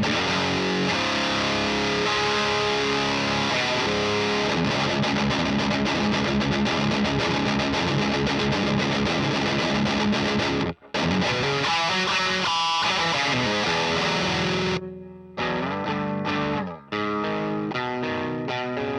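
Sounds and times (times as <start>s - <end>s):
distorted electric guitar riffing: 0.0s - 18.9s.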